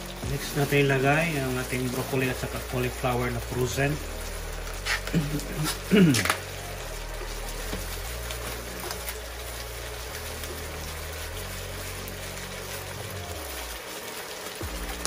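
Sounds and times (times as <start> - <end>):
hot oil sizzling in a frying pan: 0.0 - 15.0.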